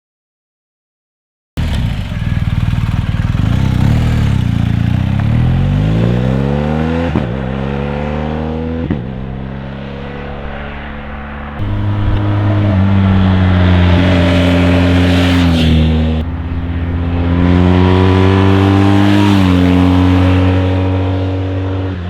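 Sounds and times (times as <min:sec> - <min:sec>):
motorcycle engine accelerating: 0:01.6 - 0:22.0.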